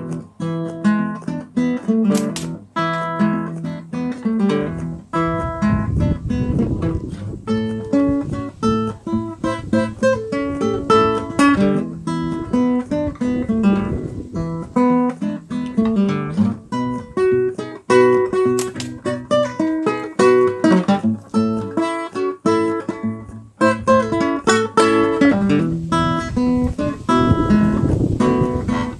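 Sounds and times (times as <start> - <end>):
blues guitar playing: 0.0 - 28.9.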